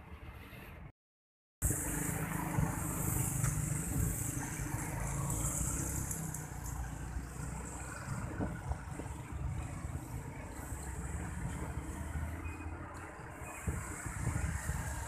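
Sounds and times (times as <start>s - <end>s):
cars passing: 1.6s - 15.0s
motorcycles passing: 1.6s - 15.0s.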